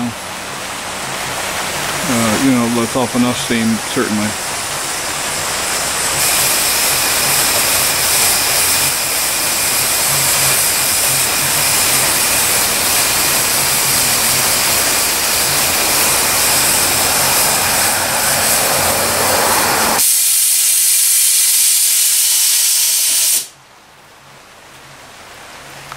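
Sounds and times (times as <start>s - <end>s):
safety valve venting steam: 1.9s - 23.6s.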